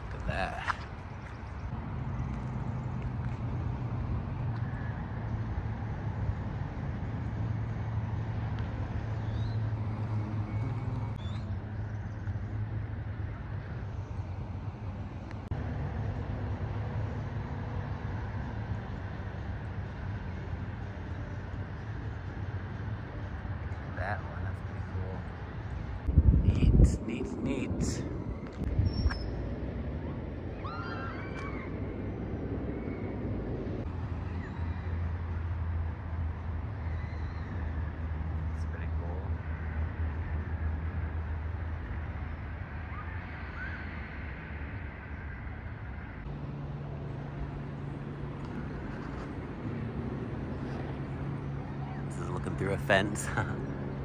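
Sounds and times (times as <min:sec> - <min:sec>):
construction machinery engine drone: 0:01.6 - 0:43.0, 0:44.6 - 0:54.0.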